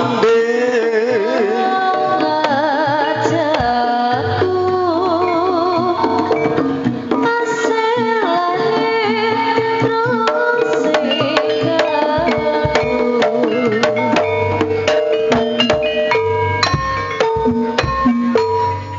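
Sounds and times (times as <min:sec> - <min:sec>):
gamelan music over sound system: 0:00.0 - 0:18.9
rapid hand-drum strokes: 0:00.0 - 0:18.9.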